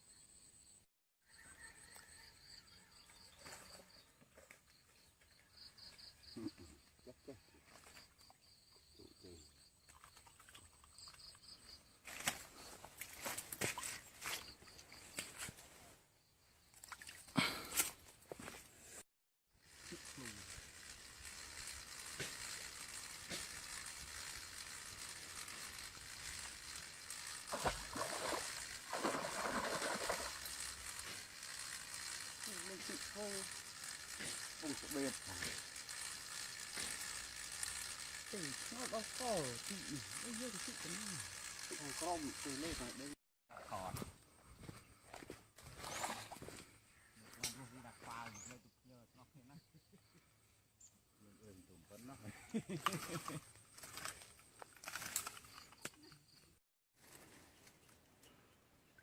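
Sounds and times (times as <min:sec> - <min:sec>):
insects chirping: 0:00.0 - 0:18.7, 0:19.6 - 0:56.6.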